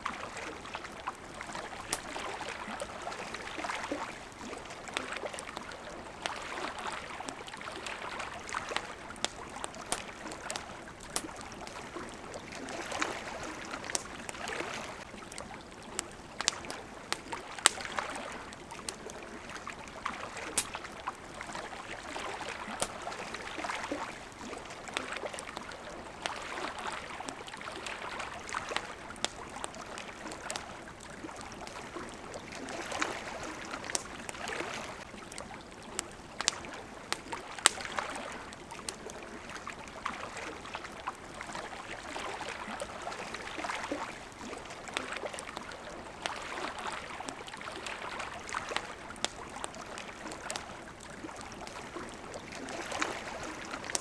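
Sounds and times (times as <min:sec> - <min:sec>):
campfire crackling and popping: 0:00.0 - 0:54.0
water lapping: 0:00.0 - 0:54.0.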